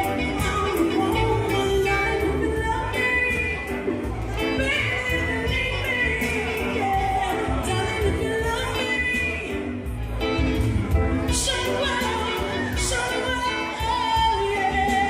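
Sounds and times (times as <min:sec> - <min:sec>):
live reggae music: 0:00.0 - 0:15.0
person singing: 0:00.0 - 0:15.0.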